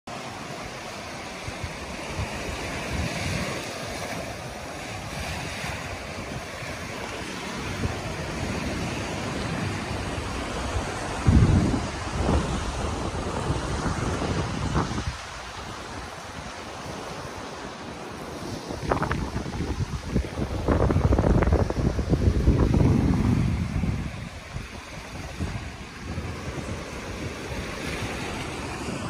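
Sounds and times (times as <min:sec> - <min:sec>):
small waves washing onto sand: 0:00.1 - 0:29.0
wind buffeting microphone: 0:00.4 - 0:29.0.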